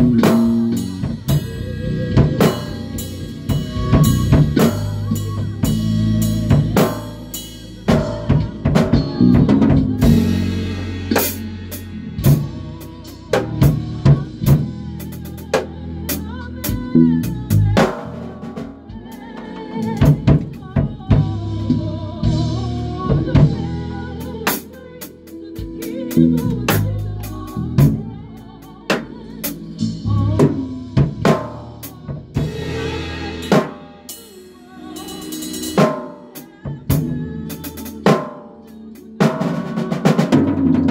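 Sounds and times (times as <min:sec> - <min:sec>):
bass guitar notes: 0:00.0 - 0:24.5, 0:25.7 - 0:33.6, 0:36.6 - 0:37.8
drum kit playing: 0:00.0 - 0:40.9.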